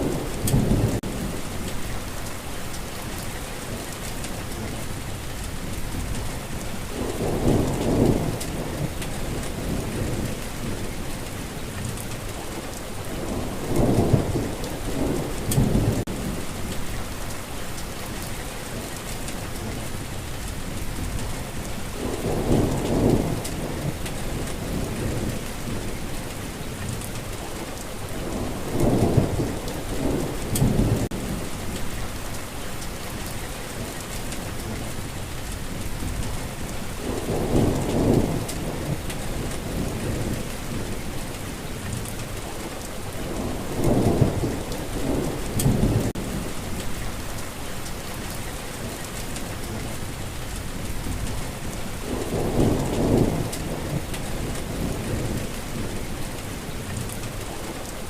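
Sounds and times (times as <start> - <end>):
low rumbles of thunder: 0.0 - 18.3, 19.0 - 57.9
steady rainfall: 0.0 - 58.0.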